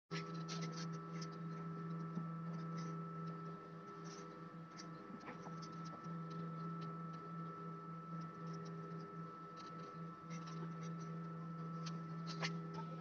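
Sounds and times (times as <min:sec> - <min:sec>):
egg scratching and clicks: 0:00.1 - 0:13.0
incubator electric hum: 0:00.1 - 0:13.0.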